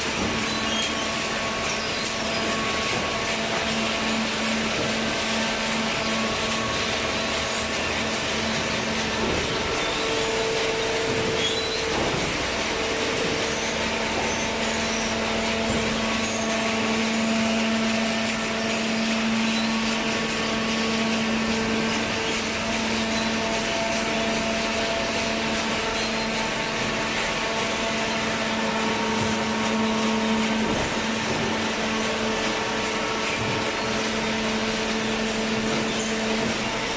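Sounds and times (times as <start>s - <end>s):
baler motor humming and whining: 0.0s - 36.9s.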